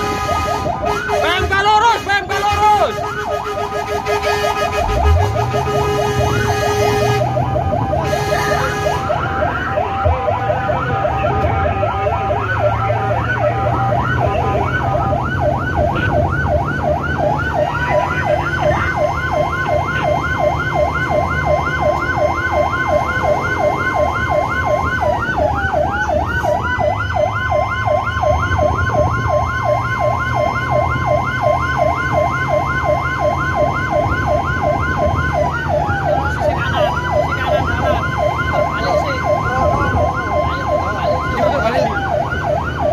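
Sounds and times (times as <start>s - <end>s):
engine drone: 0.0s - 42.9s
fast yelp siren: 0.0s - 42.9s
slow wail siren: 0.0s - 42.9s.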